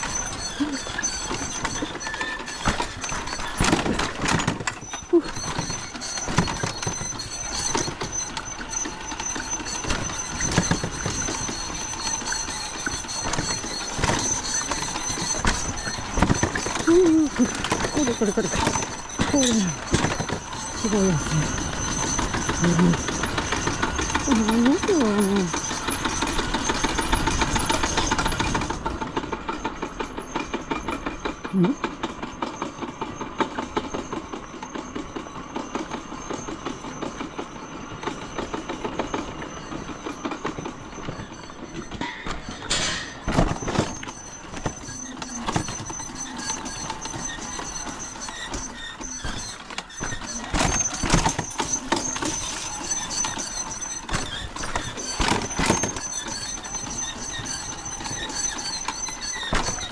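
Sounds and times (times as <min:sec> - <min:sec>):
knocks and clanks: 0:00.0 - 0:59.9
vehicle engine rattling: 0:00.0 - 0:59.9.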